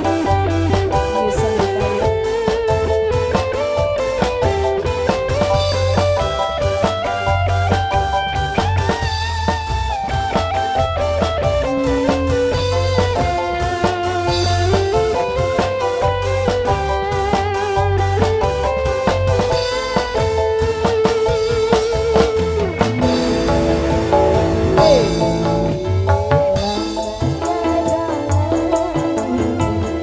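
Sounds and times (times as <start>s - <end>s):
live band instrumental: 0.0s - 30.0s.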